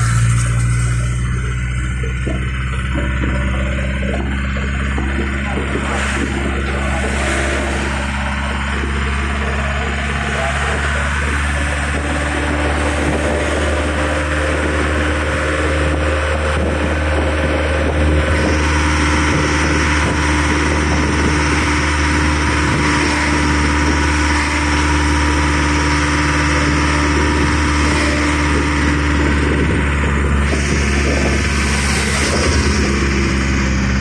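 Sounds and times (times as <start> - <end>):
road and wind noise: 0.0 - 34.0
vehicle engine running: 0.0 - 34.0.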